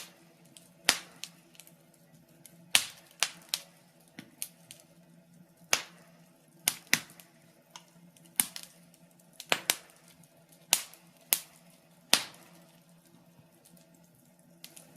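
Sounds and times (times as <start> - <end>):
faint low hum: 0.0 - 14.9
wood fire crackling: 0.0 - 14.9.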